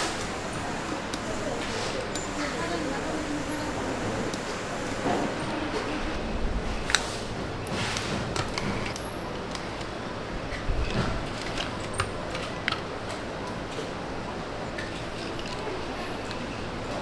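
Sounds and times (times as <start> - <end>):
workshop background noise: 0.0 - 17.0.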